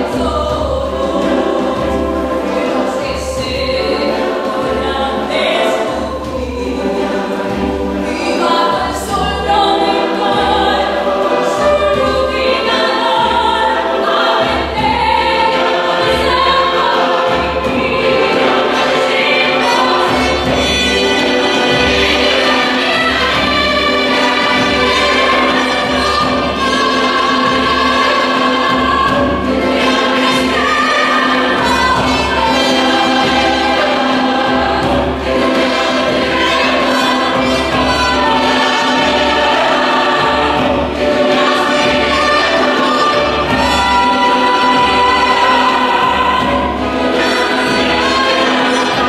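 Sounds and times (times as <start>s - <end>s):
choir singing in harmony: 0.0s - 49.0s
instrumental accompaniment: 0.0s - 49.0s.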